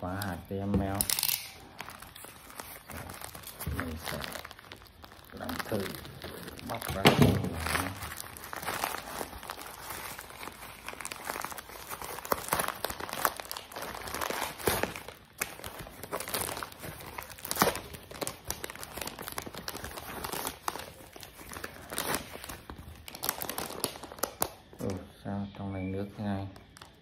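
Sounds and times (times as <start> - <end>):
plastic packaging crinkling: 0.0 - 25.0, 26.4 - 27.0
plastic tearing: 0.0 - 25.0.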